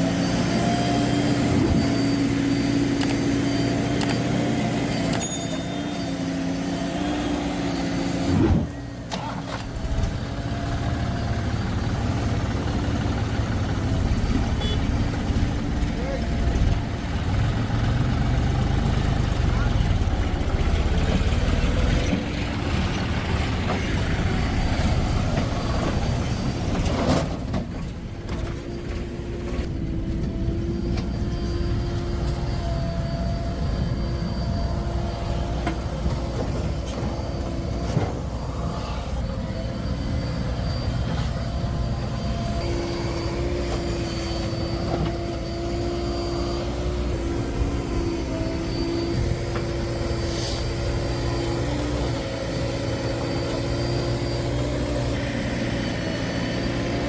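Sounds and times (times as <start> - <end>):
diesel machinery rumbling: 0.0 - 57.0
steady whine: 0.0 - 57.0.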